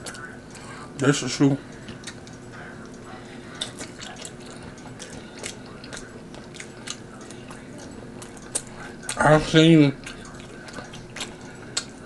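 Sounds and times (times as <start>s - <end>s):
wet chewing mouth clicks: 1.7s - 9.3s, 9.9s - 12.0s.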